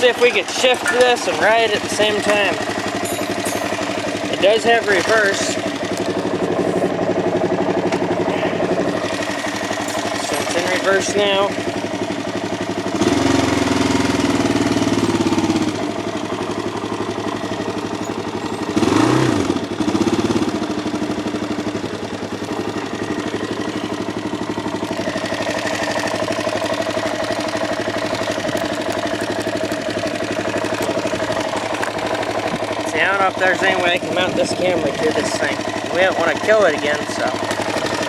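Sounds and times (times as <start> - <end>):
quad engine idling and revving: 0.0 - 38.0.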